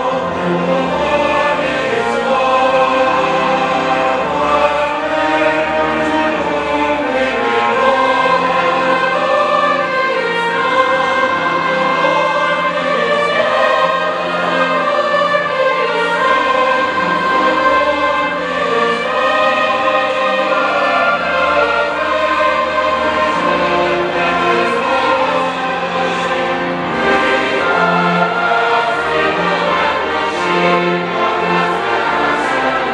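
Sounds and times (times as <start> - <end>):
large choir singing: 0.0 - 32.9
orchestra accompanying: 0.0 - 32.9.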